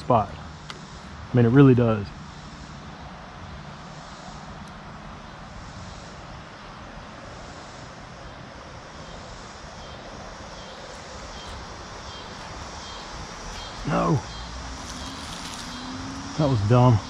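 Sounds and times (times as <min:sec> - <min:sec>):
distant road traffic drone: 0:00.0 - 0:17.0.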